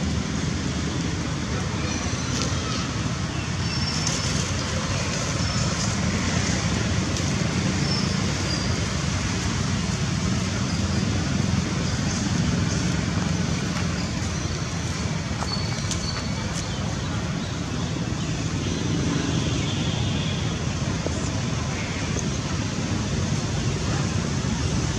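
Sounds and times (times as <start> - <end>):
road traffic rumble: 0.0 - 24.9.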